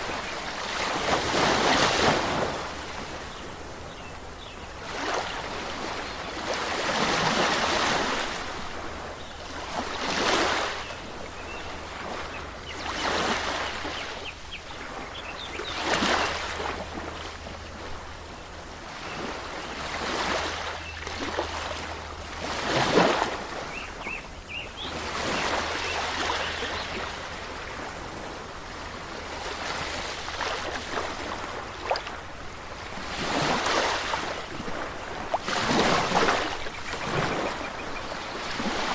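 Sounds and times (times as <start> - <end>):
waves washing in: 0.0 - 38.9.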